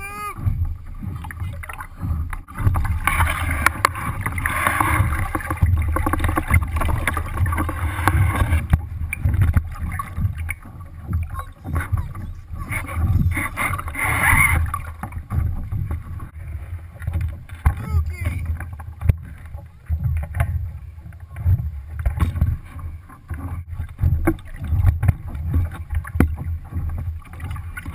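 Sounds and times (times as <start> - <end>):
wind buffeting microphone: 0.0 - 22.8
water splashing along hull: 0.0 - 27.9.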